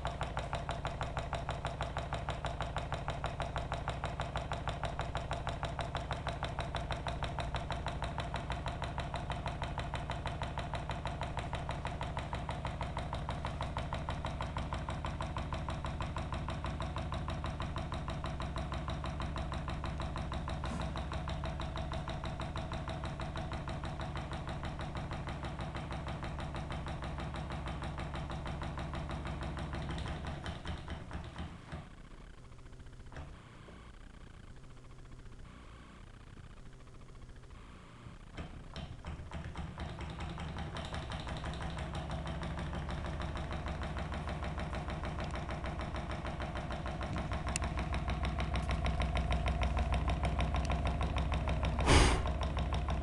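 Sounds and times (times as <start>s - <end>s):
small engine clattering: 0.0s - 35.4s, 38.2s - 53.0s.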